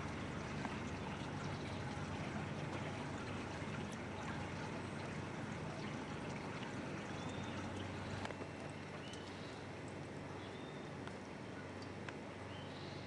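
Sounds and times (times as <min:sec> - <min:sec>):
water lapping against boat hull: 0:00.0 - 0:12.7
steady low hum: 0:00.0 - 0:13.0.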